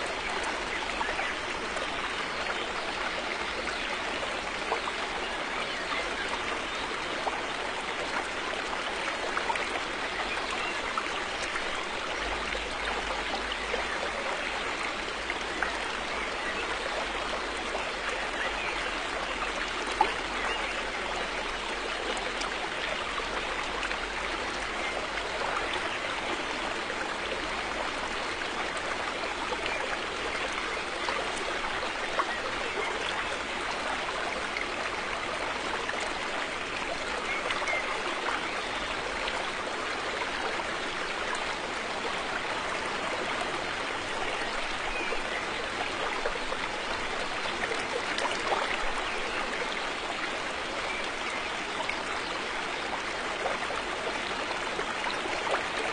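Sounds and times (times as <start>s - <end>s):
river water flowing over stones: 0.0s - 55.9s.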